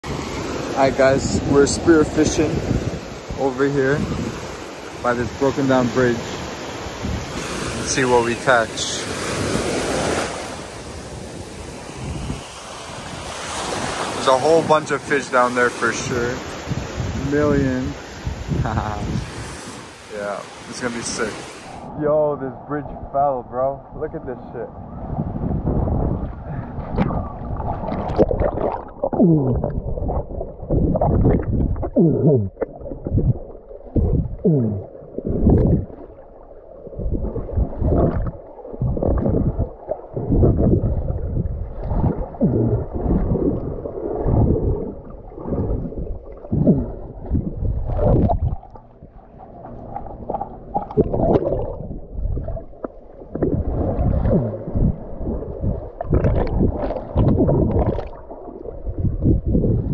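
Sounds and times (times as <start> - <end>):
water sloshing and gurgling underwater: 0.0 - 59.9.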